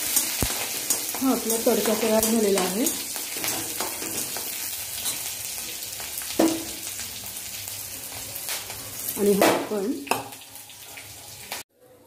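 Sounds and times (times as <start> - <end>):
spices sizzling in hot oil: 0.0 - 11.7.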